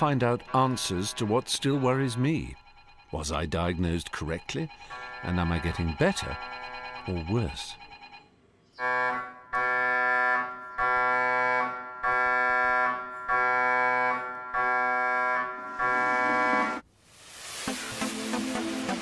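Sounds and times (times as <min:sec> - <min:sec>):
mri scanner buzzing tones: 0:00.0 - 0:08.2, 0:09.0 - 0:16.8.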